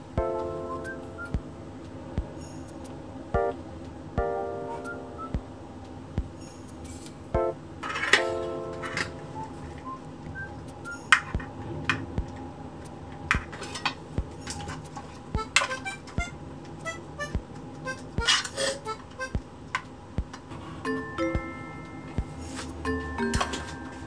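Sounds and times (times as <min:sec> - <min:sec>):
light background music: 0:00.0 - 0:19.5, 0:20.1 - 0:24.0.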